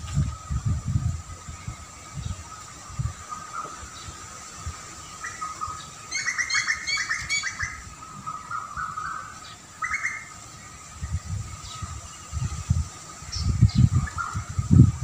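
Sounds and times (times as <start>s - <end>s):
small songbird chirping: 0.1s - 15.0s.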